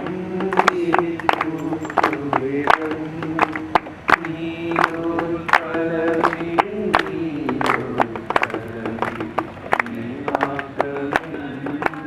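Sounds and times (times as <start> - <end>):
group singing folk song: 0.0 - 12.0
hand claps: 0.4 - 12.0.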